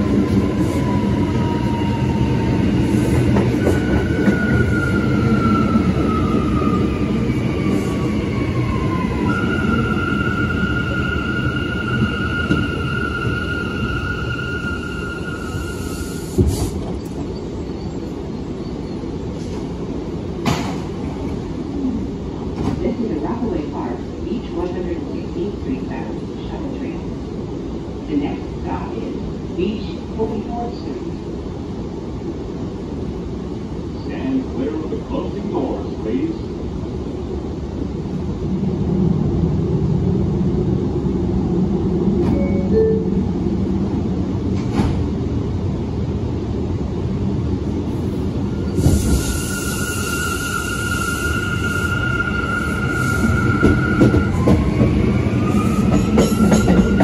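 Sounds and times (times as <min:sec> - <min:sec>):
subway train wheels rumbling on rail: 0:00.0 - 0:57.0.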